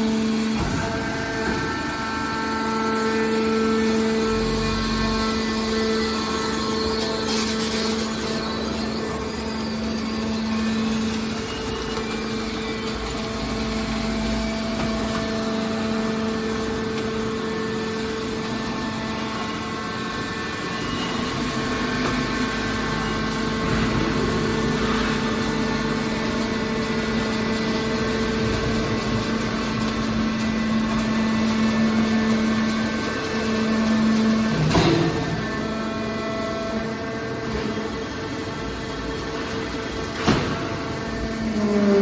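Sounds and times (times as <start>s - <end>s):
baler machine hum: 0.0s - 42.0s.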